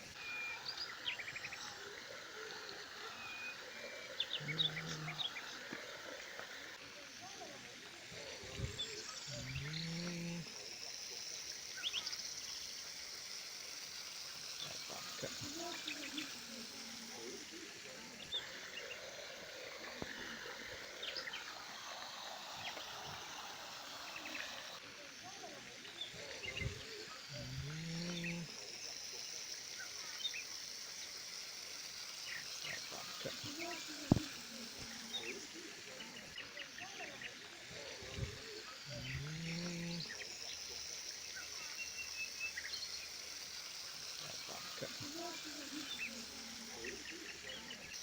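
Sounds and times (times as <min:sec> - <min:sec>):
songbird chirping: 0:00.0 - 0:48.0
steady outdoor hiss: 0:00.0 - 0:48.0.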